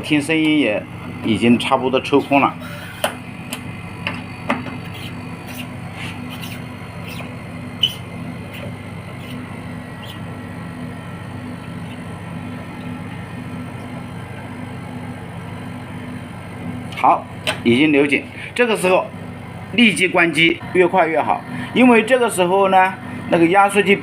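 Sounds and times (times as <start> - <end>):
air conditioner unit humming: 0.0 - 24.0.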